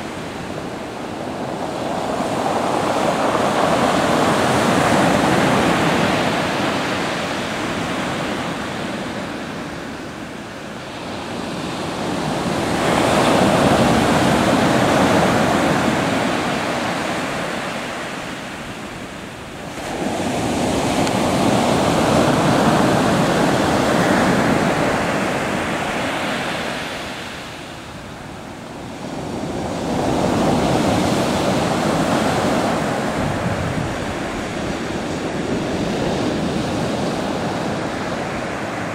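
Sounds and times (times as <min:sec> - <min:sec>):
ocean surf breaking on shore: 0:00.0 - 0:38.9
wind on microphone: 0:00.0 - 0:38.9.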